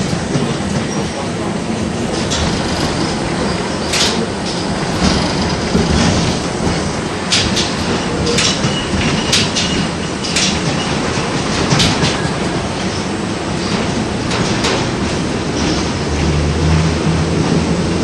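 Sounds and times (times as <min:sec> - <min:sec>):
tram rolling rumble: 0:00.0 - 0:18.0
wheels clacking on rails: 0:00.0 - 0:18.0.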